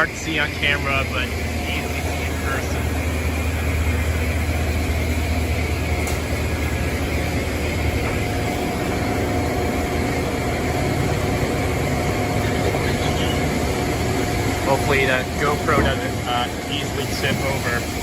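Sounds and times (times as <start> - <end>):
car wash machinery hum and hiss: 0.0 - 18.0
low drone: 0.0 - 18.0.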